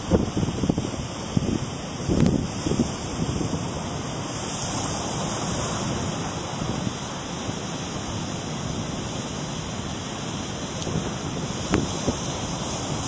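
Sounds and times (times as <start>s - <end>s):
ocean surf washing: 0.0s - 13.0s
wind on microphone: 0.0s - 13.0s.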